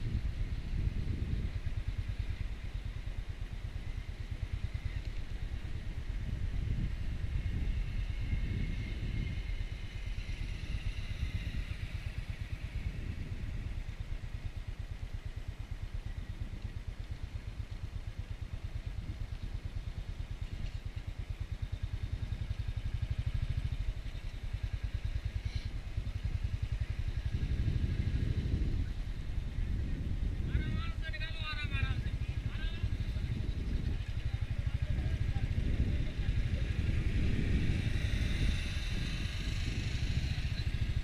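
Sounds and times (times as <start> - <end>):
motorcycle engine rumbling: 0.0 - 41.0.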